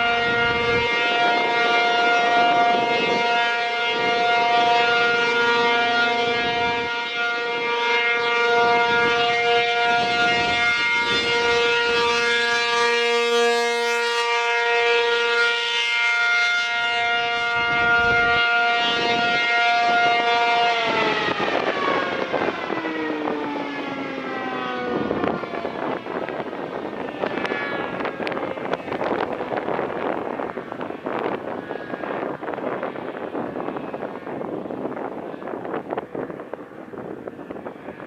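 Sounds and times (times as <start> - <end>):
warning siren steady tone: 0.0 - 38.0.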